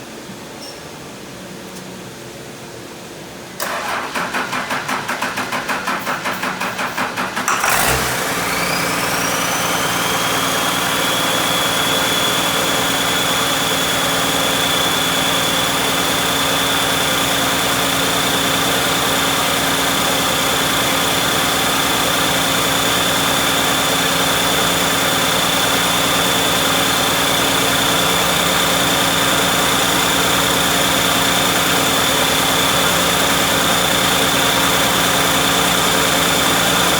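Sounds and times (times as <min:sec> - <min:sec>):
diesel engine cranking and idling: 0:03.6 - 0:36.9.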